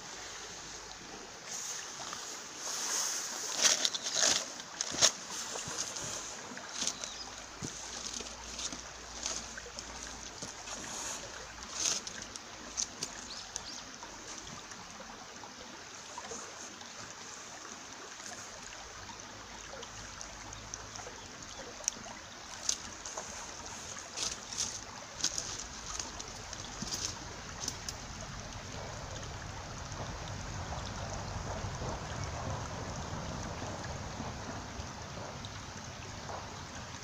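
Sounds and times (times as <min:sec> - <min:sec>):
stream babbling over rocks: 0:00.0 - 0:37.0.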